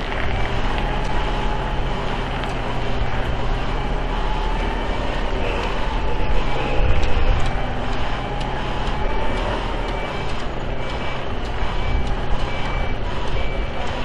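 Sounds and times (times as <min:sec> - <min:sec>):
high warning beep: 0:00.0 - 0:14.0
truck engine rumble: 0:00.0 - 0:14.0.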